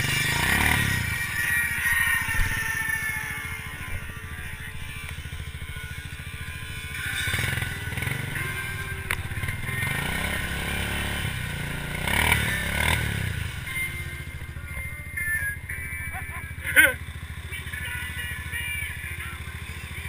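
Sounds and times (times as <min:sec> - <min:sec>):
atv engine revving: 0:00.0 - 0:20.0
music: 0:00.0 - 0:20.0.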